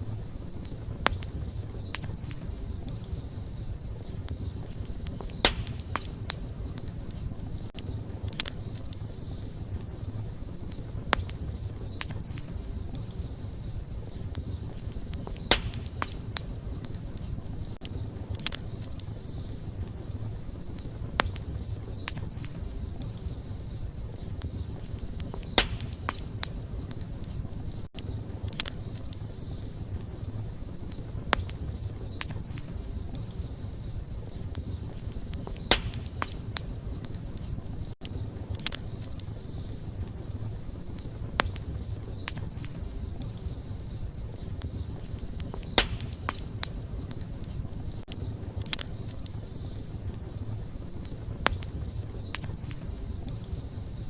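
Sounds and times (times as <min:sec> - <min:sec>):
fire crackling and popping: 0:00.0 - 0:54.0
wood fire rumbling: 0:00.0 - 0:54.0.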